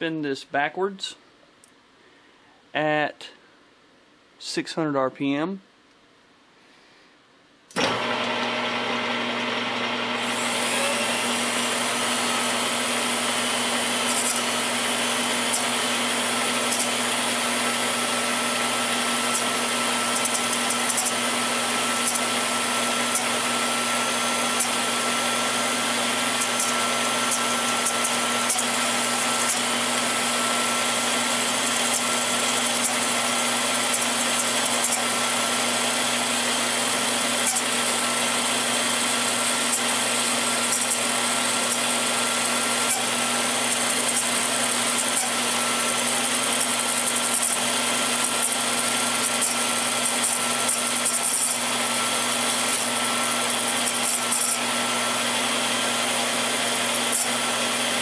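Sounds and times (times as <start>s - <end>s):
cut-off wheel grinding steel: 7.7s - 58.0s
rotary tool whine: 7.8s - 58.0s.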